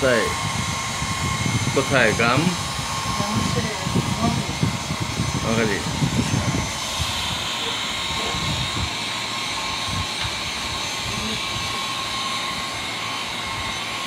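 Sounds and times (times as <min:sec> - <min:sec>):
electric grooming tool whirring: 0:00.0 - 0:14.0.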